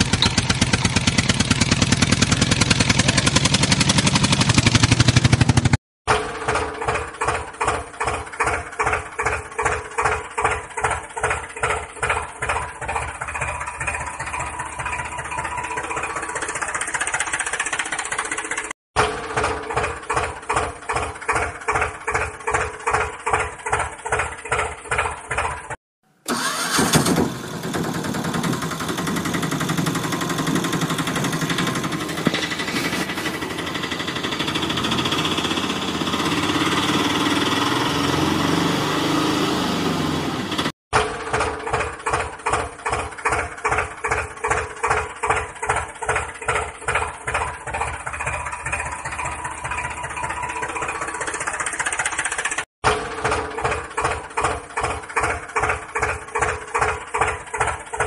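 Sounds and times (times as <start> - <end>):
tractor engine chugging: 0.0 - 58.0.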